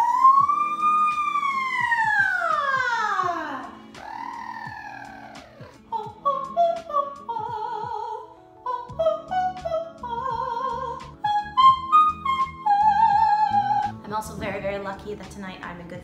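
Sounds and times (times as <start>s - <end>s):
woman singing vocal exercises: 0.0s - 14.9s.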